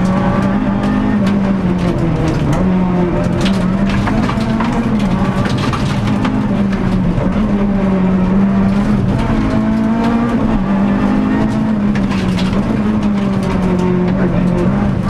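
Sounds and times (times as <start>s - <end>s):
rally car engine from inside: 0.0s - 15.0s.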